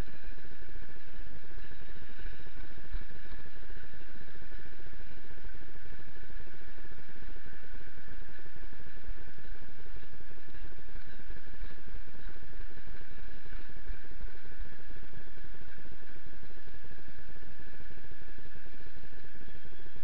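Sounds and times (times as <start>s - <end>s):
faint high whine: 0.0s - 20.0s
rumbling and rustling on microphone: 0.0s - 20.0s.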